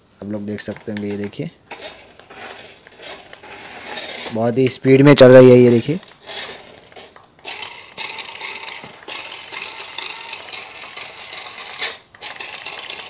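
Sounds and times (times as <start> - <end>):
toy car motor whirring: 0.6 - 4.6, 5.2 - 13.0.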